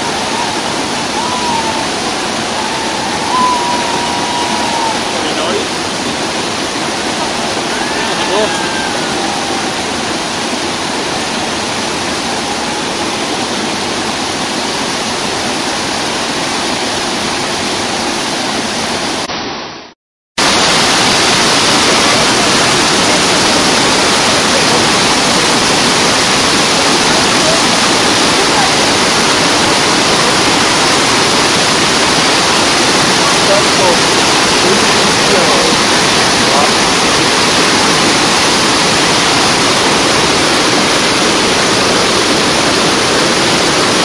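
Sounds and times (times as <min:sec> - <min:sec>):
waterfall rushing: 0:00.0 - 0:19.8, 0:20.4 - 0:44.0.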